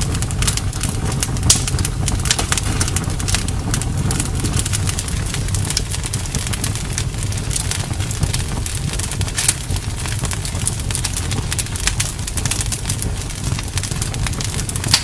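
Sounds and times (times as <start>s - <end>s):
campfire crackling and popping: 0.0s - 15.0s
low rumble of flame: 0.0s - 15.0s.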